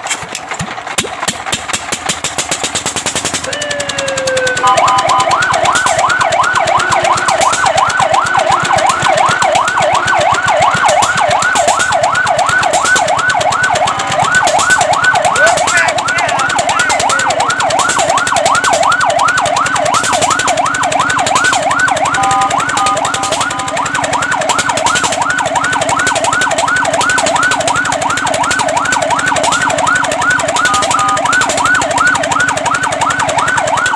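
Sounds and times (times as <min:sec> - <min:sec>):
fire truck siren: 0:03.0 - 0:33.9.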